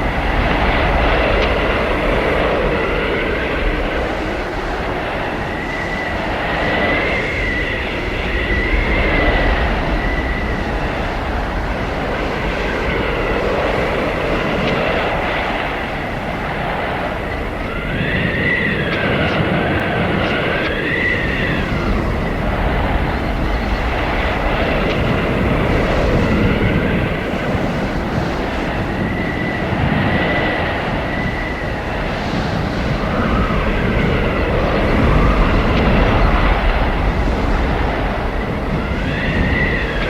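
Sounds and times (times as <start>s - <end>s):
blizzard wind howling: 0.0s - 40.0s.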